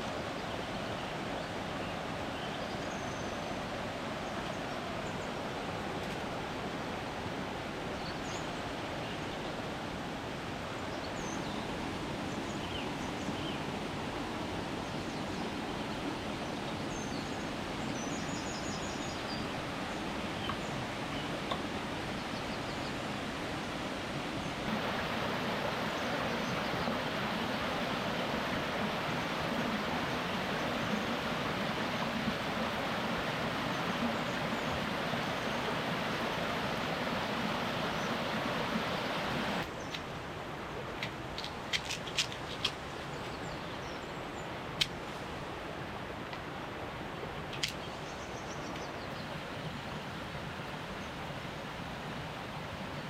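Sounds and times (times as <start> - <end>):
outdoor background noise: 0.0 - 53.0.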